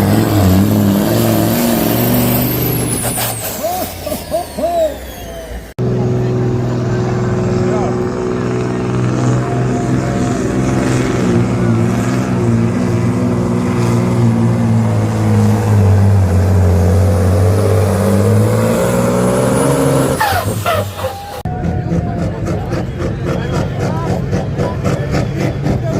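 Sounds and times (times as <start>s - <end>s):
diesel engine droning under load: 0.0s - 25.9s.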